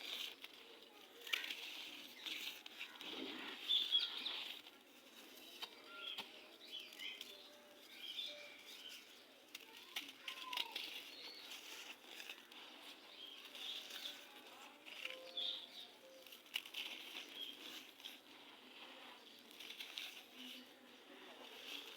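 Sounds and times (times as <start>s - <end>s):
sand crunching and rustling: 0.0s - 21.9s.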